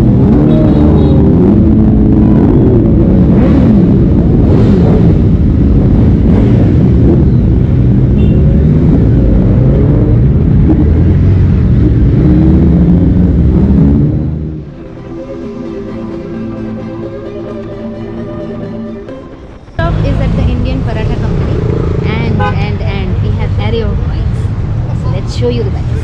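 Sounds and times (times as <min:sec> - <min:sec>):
motorcycle engines revving: 0:00.0 - 0:16.8, 0:19.7 - 0:26.0.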